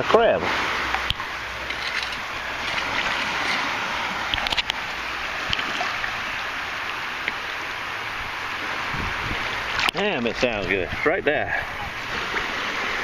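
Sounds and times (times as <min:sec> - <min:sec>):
surf washing and water sloshing: 0:00.0 - 0:13.0.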